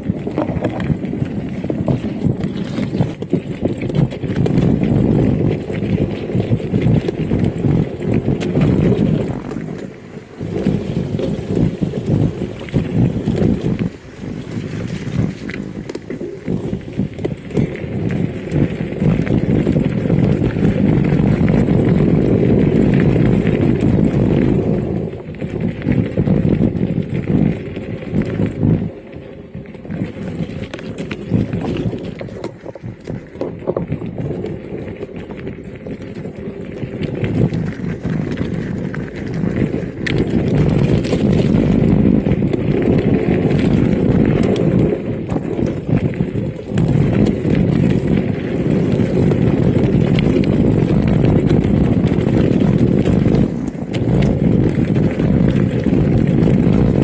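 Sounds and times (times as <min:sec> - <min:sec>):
mountain bike rumbling on rough trail: 0:00.0 - 0:57.0.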